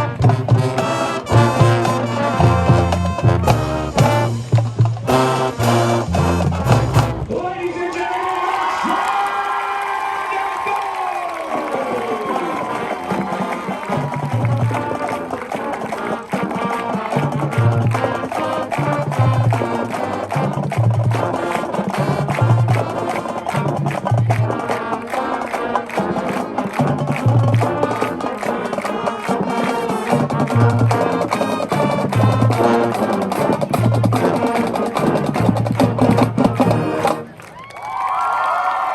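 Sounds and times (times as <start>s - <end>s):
drumline: 0.0s - 7.9s, 11.4s - 37.7s
marching band playing: 0.0s - 7.9s, 11.7s - 37.6s.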